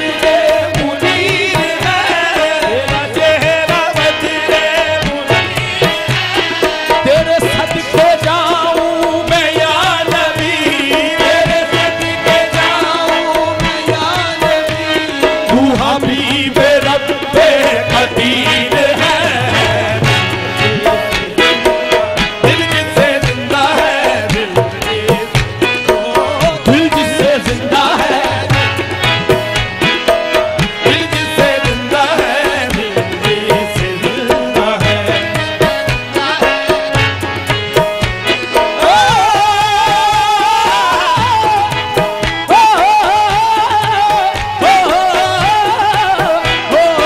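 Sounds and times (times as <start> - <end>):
harmonium drone chords: 0.0 - 47.0
tabla strokes: 0.0 - 47.0.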